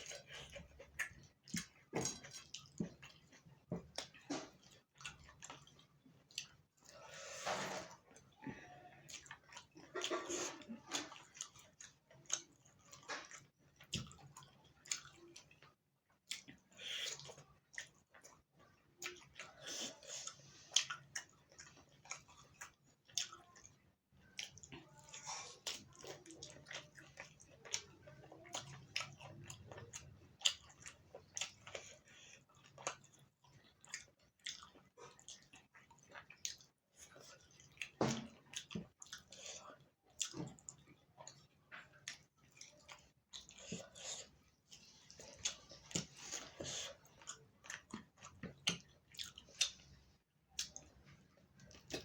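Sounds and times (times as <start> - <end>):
person chewing with mouth smacks: 0.0 - 52.0.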